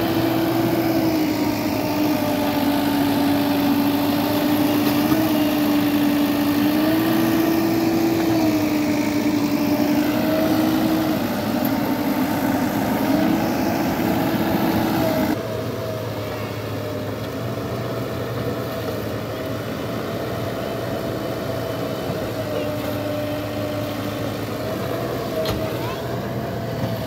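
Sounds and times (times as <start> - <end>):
backhoe diesel engine under load: 0.0 - 27.0.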